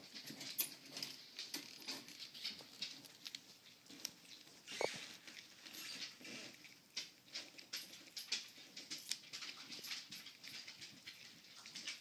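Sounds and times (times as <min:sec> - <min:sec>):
prairie dog chewing crunches: 0:00.0 - 0:12.0.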